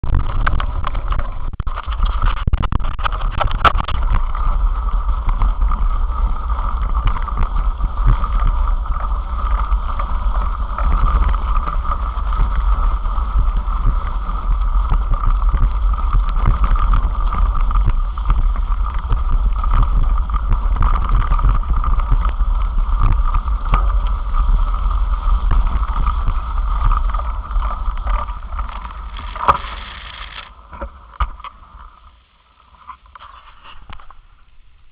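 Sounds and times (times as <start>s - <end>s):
bicycle rolling noise: 0.0s - 34.9s
steady mid-pitched hum: 0.0s - 34.9s
wind rumbling on microphone: 0.0s - 34.9s.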